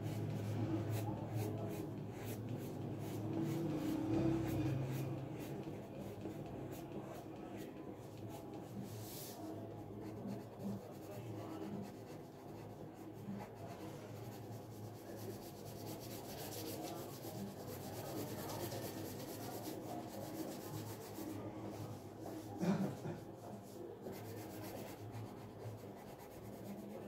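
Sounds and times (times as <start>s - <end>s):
pencil scratching on paper: 0.0s - 9.4s, 10.0s - 21.4s, 23.6s - 27.0s.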